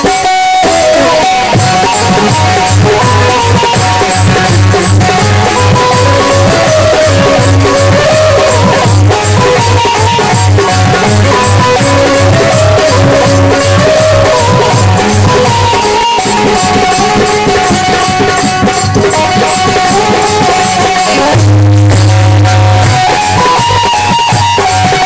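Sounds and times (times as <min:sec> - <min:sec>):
hand drum strokes: 0:00.0 - 0:25.0
harmonium melody: 0:00.0 - 0:25.0.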